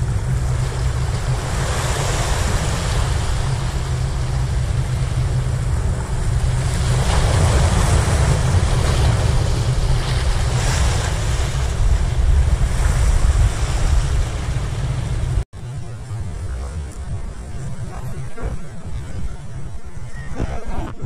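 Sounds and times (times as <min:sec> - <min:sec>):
sea waves washing over boulders: 0:00.0 - 0:21.0
wind buffeting microphone: 0:00.0 - 0:21.0.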